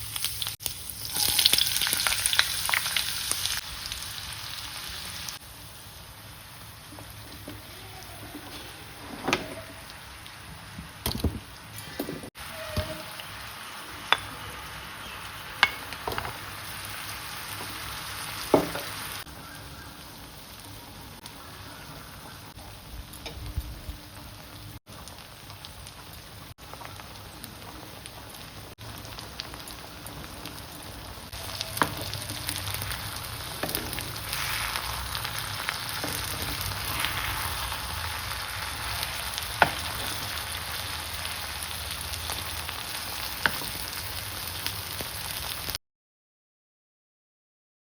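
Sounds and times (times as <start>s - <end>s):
food sizzling in a pan: 0.0s - 45.8s.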